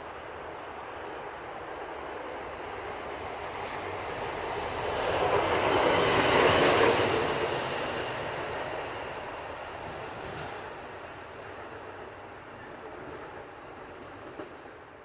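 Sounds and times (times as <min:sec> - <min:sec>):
train passing by: 0:00.0 - 0:15.0.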